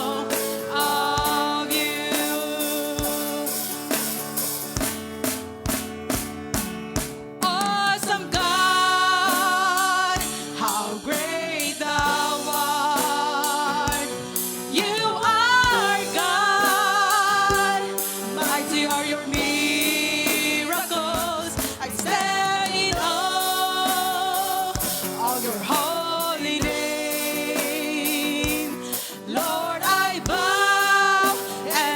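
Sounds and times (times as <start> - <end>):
voices singing: 0.0 - 4.5, 7.4 - 31.9
keyboard or guitar chords: 0.0 - 7.4, 10.1 - 31.9
drum kit beat: 0.0 - 31.9.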